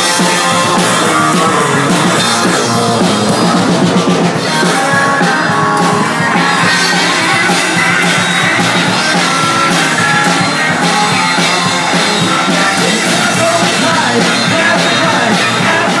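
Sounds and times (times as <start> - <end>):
rock music with drums and guitar: 0.0 - 16.0.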